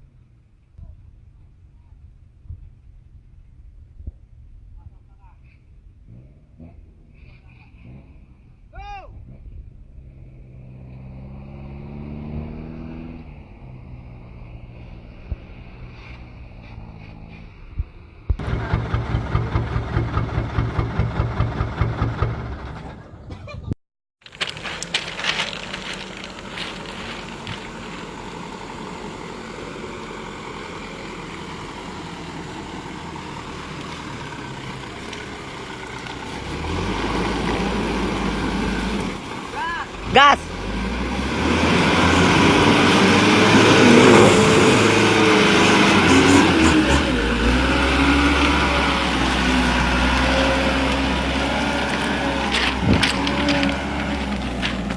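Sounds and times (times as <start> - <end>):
diesel truck engine revving: 6.0 - 17.6, 18.3 - 23.3, 24.8 - 54.9.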